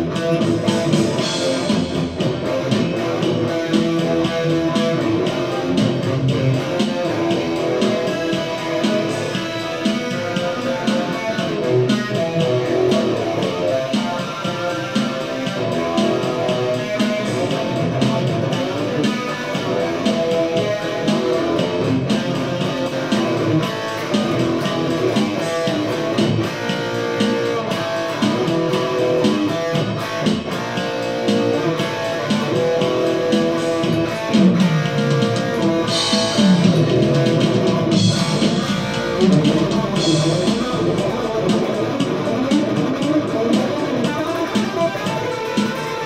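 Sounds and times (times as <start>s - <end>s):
electric guitar playing: 0.0s - 46.0s.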